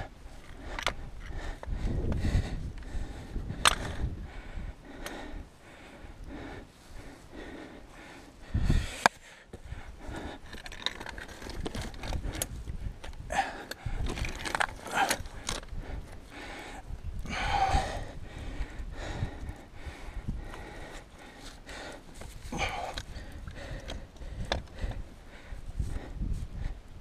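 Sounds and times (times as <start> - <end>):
person breathing hard: 0.0 - 27.0.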